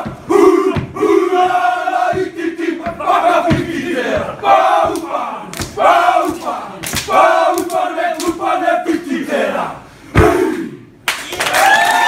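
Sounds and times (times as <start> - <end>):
men chanting and shouting in unison: 0.0 - 10.8.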